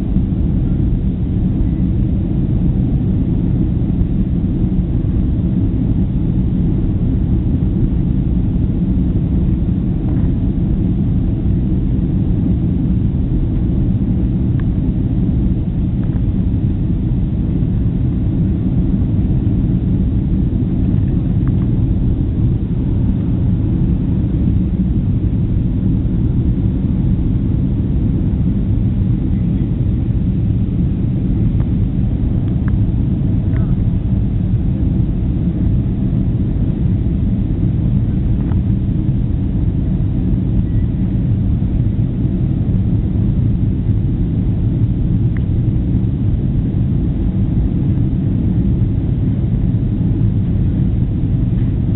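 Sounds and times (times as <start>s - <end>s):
jet engines rumbling in flight: 0.0s - 51.9s.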